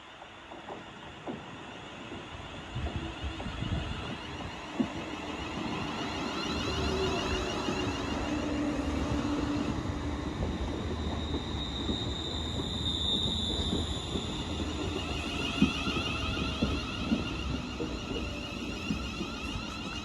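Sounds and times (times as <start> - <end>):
high squeal of train brakes: 0.0 - 20.0
train rumbling: 0.2 - 20.0.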